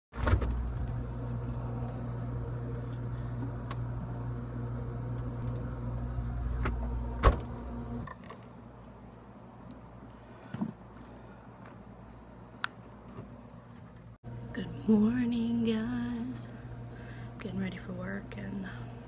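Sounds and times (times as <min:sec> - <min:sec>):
refrigerator hum: 0:00.2 - 0:19.0.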